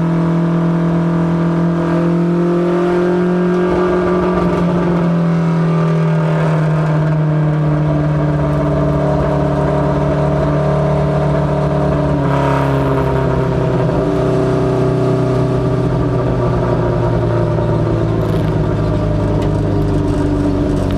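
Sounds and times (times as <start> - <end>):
race car engine running: 0.0 - 20.9.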